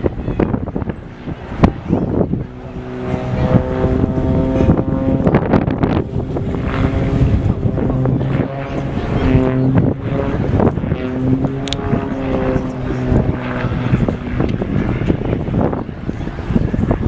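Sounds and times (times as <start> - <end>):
engine droning: 0.0 - 17.0
wind buffeting microphone: 0.0 - 17.0.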